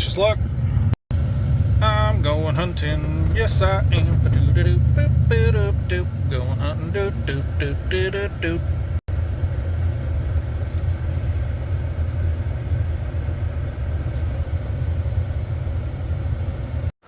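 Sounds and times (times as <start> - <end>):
vehicle driving low rumble: 0.0 - 17.0.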